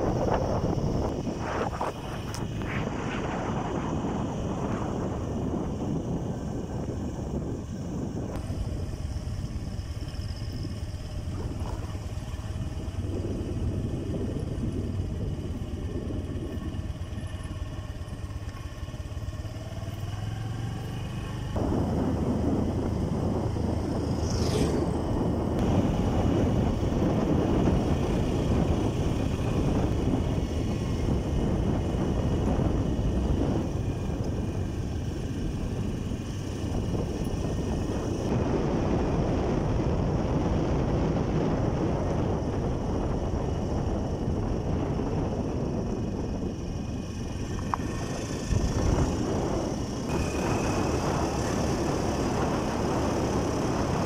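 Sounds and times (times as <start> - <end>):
motorcycle engine and road noise: 0.0 - 54.0.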